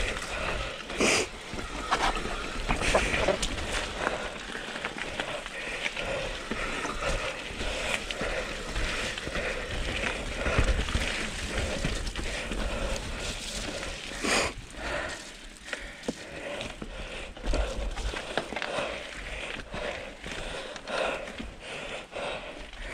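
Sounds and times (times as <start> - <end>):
bike tyres crunching over dirt: 0.0 - 22.9.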